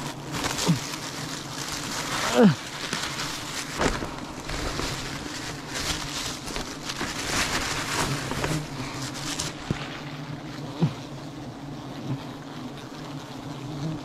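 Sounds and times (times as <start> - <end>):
bees buzzing: 0.0 - 14.0
leaves and branches rustling: 0.0 - 14.0.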